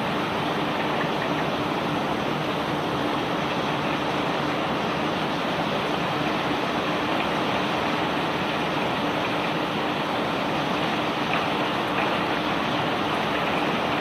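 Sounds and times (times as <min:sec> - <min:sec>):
conveyor belt carrying rock: 0:00.0 - 0:14.0.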